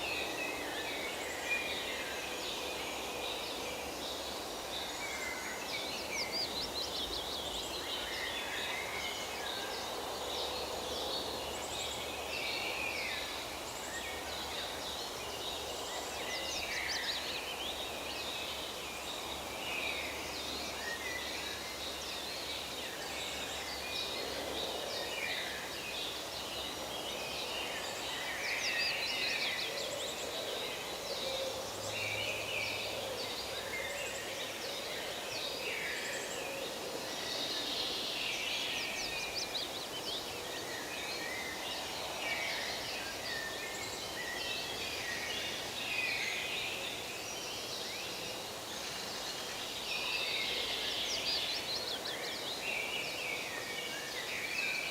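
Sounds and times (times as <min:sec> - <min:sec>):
steady background hiss: 0:00.0 - 0:54.9.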